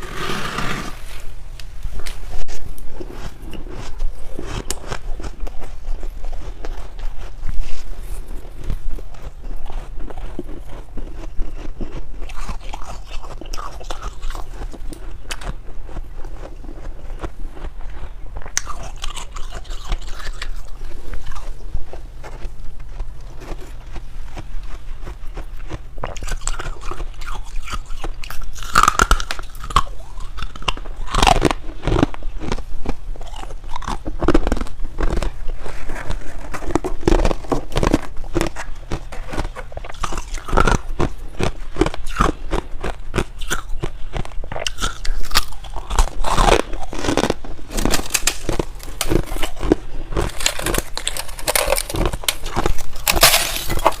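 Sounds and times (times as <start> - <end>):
chewing ice crunching: 2.0 - 54.0.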